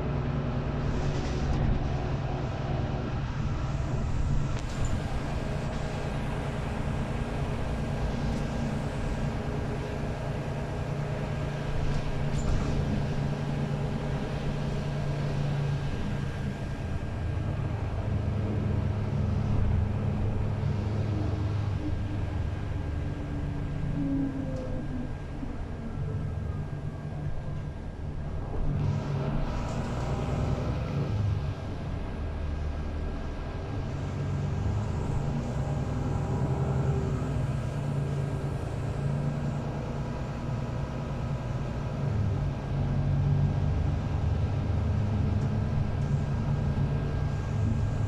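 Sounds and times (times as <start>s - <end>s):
bus engine droning: 0.0s - 48.0s.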